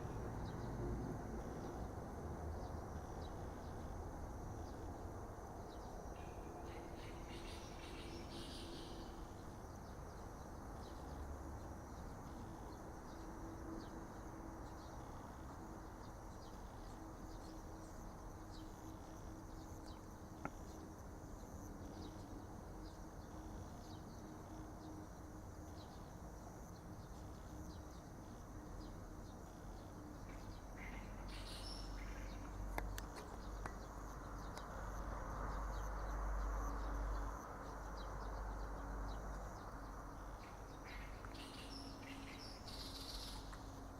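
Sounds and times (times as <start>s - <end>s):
high insect drone: 0.0s - 43.9s.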